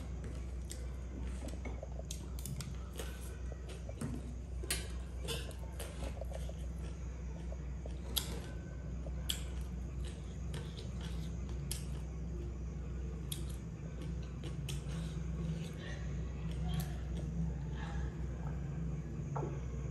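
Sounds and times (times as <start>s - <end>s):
chewing: 0.0s - 12.5s, 13.2s - 18.1s
steady low hum: 0.0s - 19.9s.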